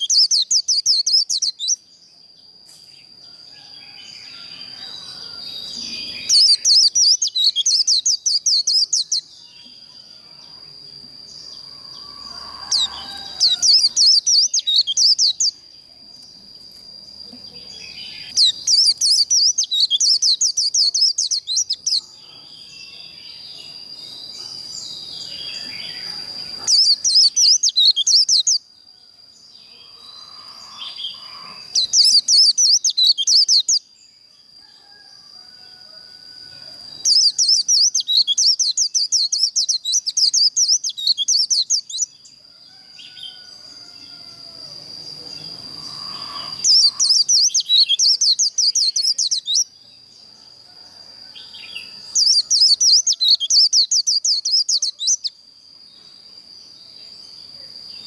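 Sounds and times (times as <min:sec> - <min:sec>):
bird twittering song: 0:00.0 - 0:28.7, 0:29.6 - 0:34.2, 0:36.8 - 0:42.4, 0:45.1 - 0:50.1, 0:51.4 - 0:55.4.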